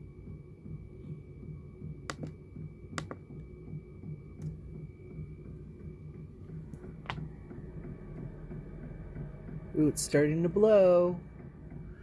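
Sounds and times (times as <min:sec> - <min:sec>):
heater blower hum: 0:00.0 - 0:12.0.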